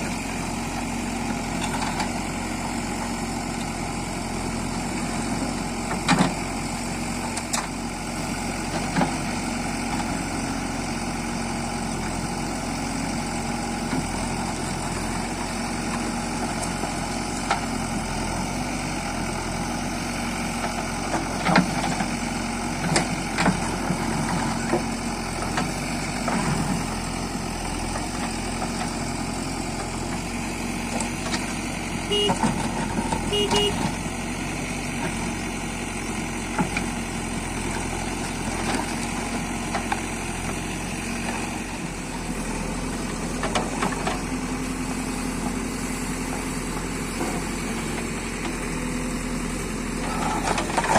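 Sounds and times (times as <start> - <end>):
diesel engine running at low revs: 0.0 - 50.9.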